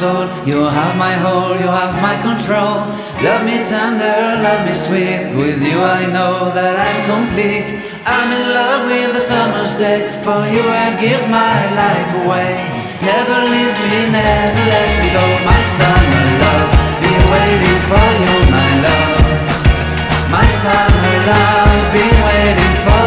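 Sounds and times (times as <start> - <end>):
song with singing voices: 0.0 - 23.0.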